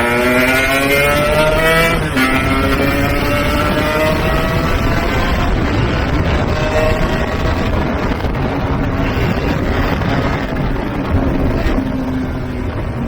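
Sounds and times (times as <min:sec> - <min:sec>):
two-stroke motorcycle engine: 0:00.0 - 0:13.0
wind buffeting microphone: 0:00.0 - 0:13.0.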